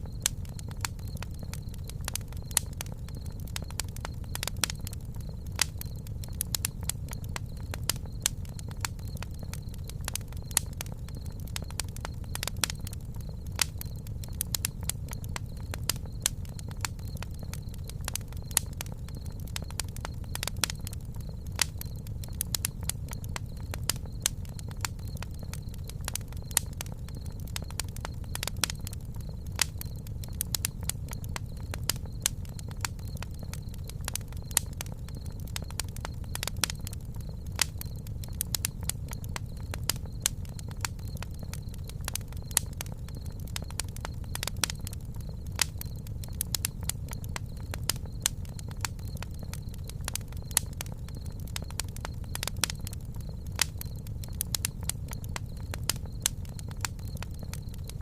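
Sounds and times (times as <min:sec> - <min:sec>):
low rumble of flame: 0:00.0 - 0:58.0
wood crackling and popping: 0:00.0 - 0:58.0.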